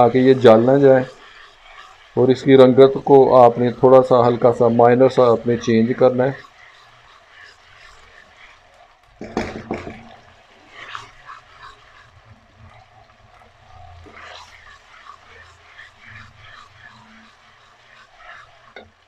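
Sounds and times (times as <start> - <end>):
paste frying in oil: 0.0 - 19.0
wooden spoon scraping a pan: 0.0 - 19.0.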